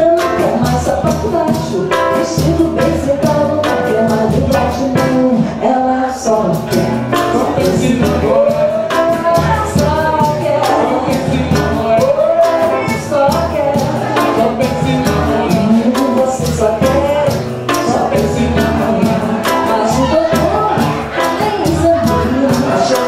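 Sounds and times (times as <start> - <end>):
bass drum beat: 0.0 - 5.4, 6.4 - 23.0
electric guitar: 0.0 - 23.0
person singing: 0.0 - 23.0.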